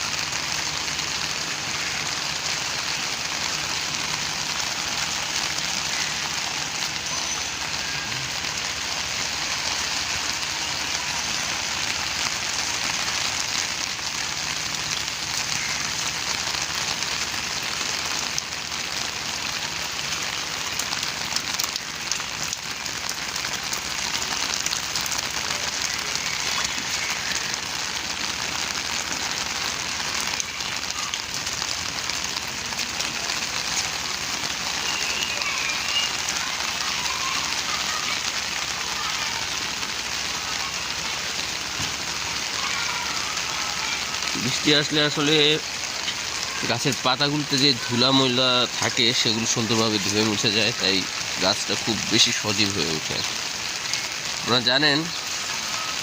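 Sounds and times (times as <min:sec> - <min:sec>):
rain falling on a rooftop: 0:00.0 - 0:56.0.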